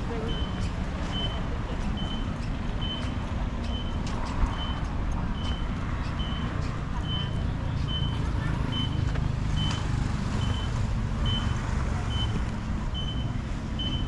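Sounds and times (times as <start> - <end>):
engines rumbling: 0.0 - 14.0
vehicle reversing alarm beeps: 0.0 - 14.0.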